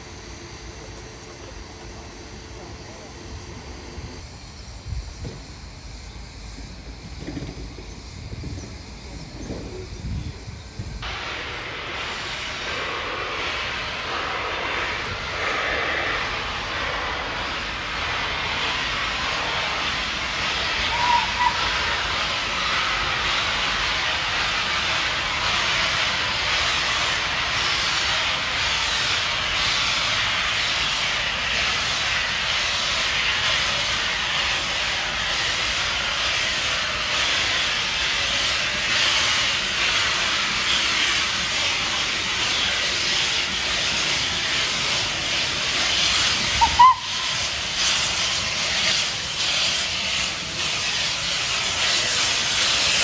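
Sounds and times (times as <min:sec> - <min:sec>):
steam locomotive venting steam: 0:00.0 - 0:53.0.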